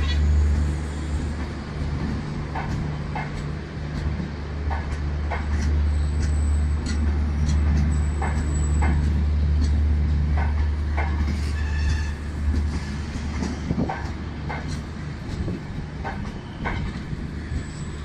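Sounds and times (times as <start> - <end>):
train approaching on track: 0.0 - 18.0.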